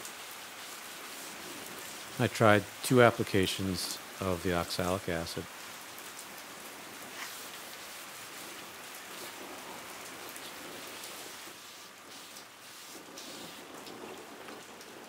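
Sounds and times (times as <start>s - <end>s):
steady hissing noise: 0.0s - 15.0s.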